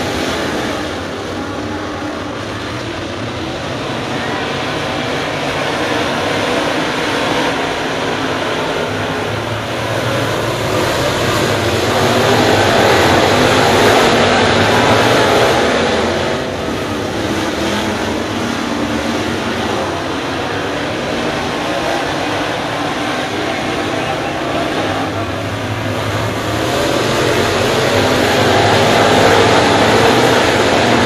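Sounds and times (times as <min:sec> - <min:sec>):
race car engines: 0:00.0 - 0:31.0.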